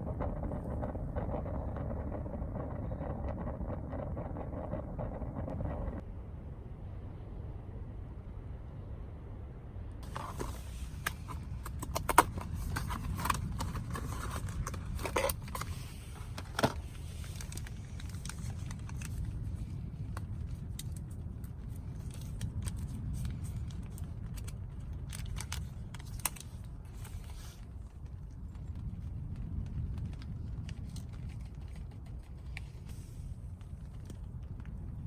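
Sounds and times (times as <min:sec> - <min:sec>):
wind noise rumble: 0:00.0 - 0:35.0.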